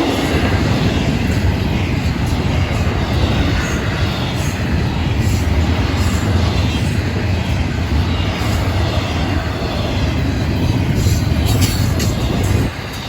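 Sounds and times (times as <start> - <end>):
freight train wheels rumbling: 0.0 - 13.0
sharp clacks of train wheels: 0.0 - 13.0.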